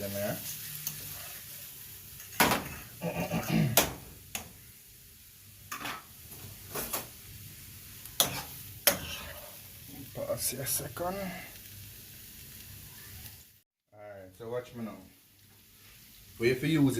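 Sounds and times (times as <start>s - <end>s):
vegetables sauteing: 0.0s - 16.9s.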